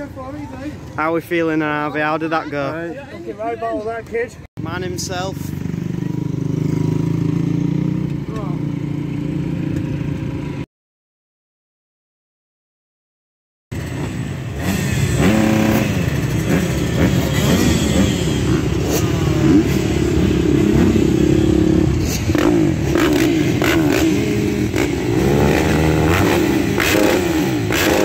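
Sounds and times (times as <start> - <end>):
motocross engines idling and revving: 0.0 - 10.7, 13.7 - 28.0.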